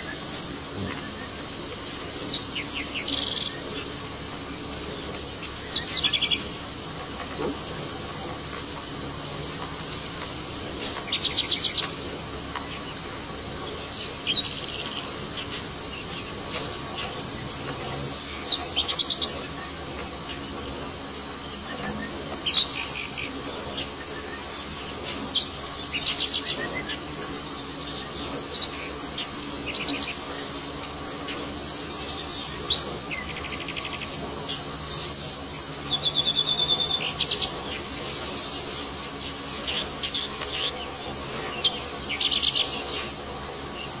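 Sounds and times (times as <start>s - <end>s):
birds chirping and trilling: 0.0s - 44.0s
insect buzzing drone: 0.0s - 44.0s.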